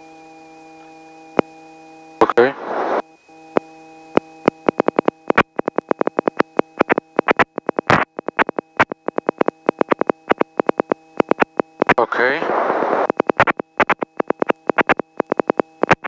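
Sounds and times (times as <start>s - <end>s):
steady electrical hum: 0.0s - 16.0s
intercom line crackling clicks: 2.2s - 16.0s.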